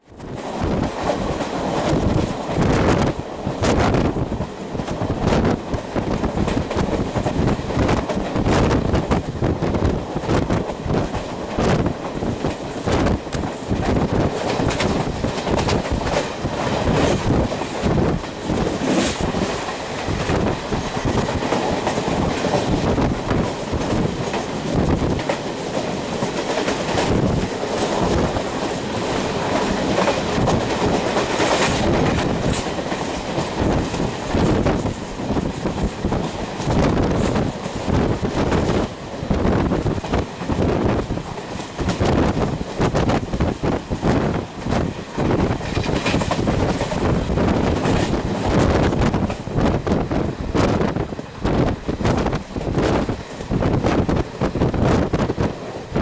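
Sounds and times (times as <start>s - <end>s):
train wheels clattering over rail joints: 0.3s - 56.0s.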